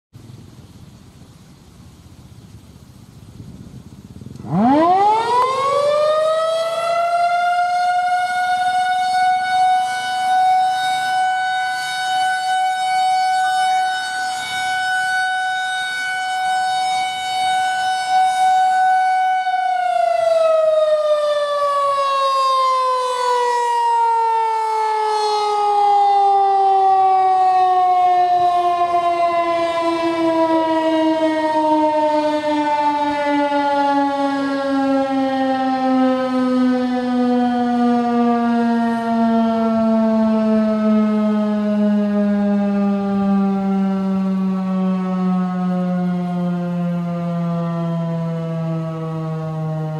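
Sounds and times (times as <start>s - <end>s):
warning siren: 4.2s - 49.9s.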